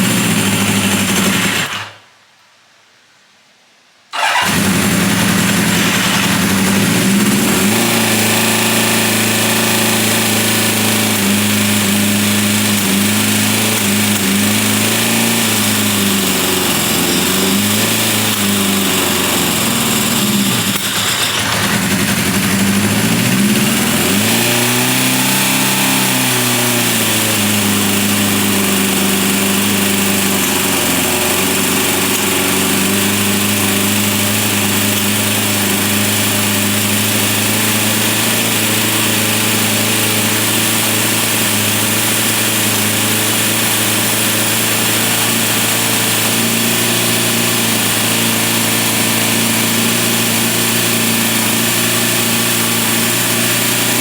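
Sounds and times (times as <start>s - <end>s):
motorcycle engine idling: 0.0s - 1.8s, 4.2s - 54.0s.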